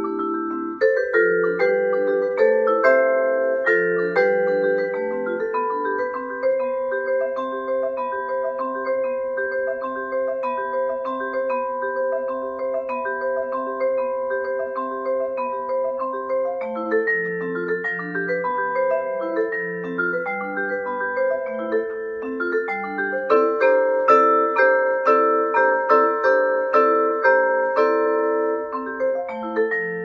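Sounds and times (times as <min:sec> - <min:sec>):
vibraphone notes ringing: 0:00.0 - 0:30.0.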